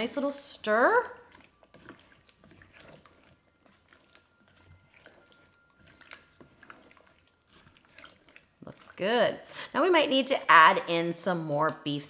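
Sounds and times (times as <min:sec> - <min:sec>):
stew squelching while stirred: 0:00.0 - 0:12.0.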